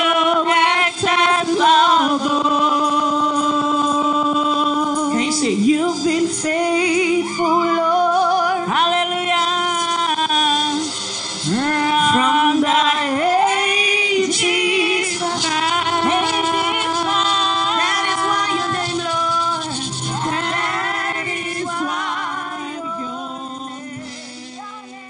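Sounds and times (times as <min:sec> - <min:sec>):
musical backing: 0:00.0 - 0:25.0
woman singing into a microphone: 0:00.0 - 0:25.0.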